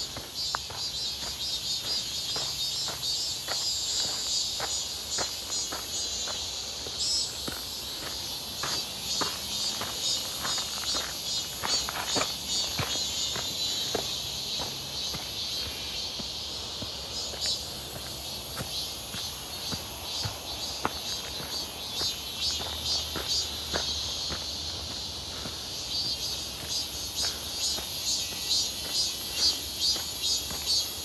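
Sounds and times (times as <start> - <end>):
cicadas singing: 0.0 - 31.0.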